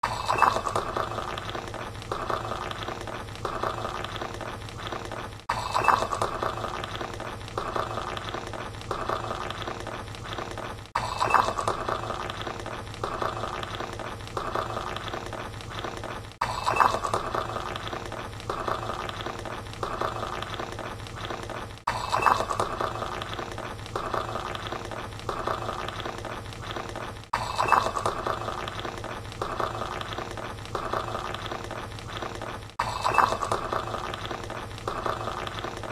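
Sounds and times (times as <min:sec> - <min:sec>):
tea pouring into a cup: 0:00.0 - 0:35.9.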